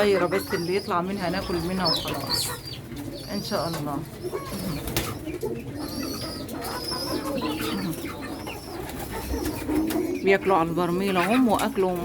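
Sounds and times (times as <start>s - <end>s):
high-pitched bird peeps: 0.0s - 11.7s
pigeons cooing: 0.0s - 12.0s.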